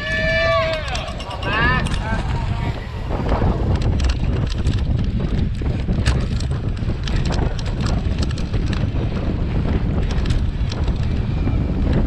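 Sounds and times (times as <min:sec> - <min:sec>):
bicycle clicks and rattles: 0:00.0 - 0:12.0
low rumble: 0:00.0 - 0:12.0
wind buffeting microphone: 0:00.0 - 0:12.0.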